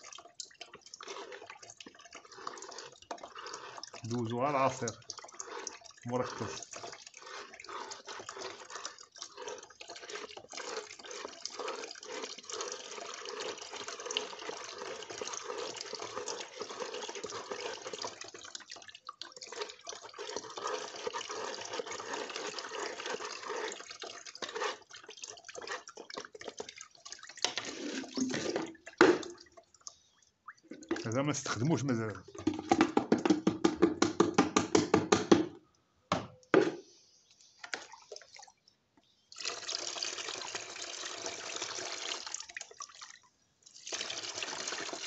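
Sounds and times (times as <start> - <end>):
liquid pouring and splashing: 0.0 - 34.2, 37.6 - 45.0.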